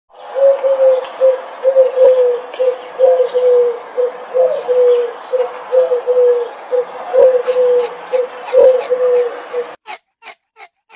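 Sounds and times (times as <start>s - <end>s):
dove cooing: 0.2s - 9.8s.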